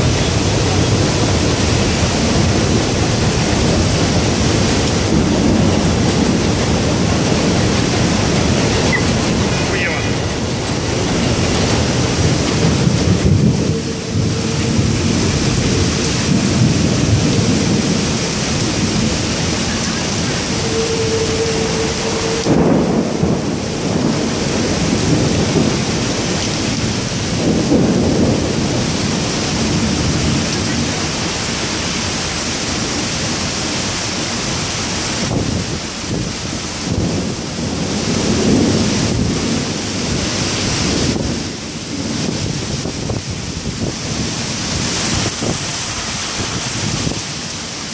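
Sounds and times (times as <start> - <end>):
heavy rain pouring: 0.0 - 47.9
thunder rolling: 0.0 - 47.9.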